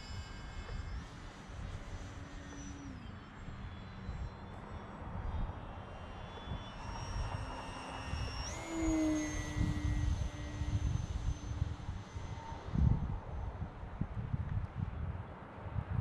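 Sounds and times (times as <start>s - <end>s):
model plane motor whine: 0.0s - 15.1s.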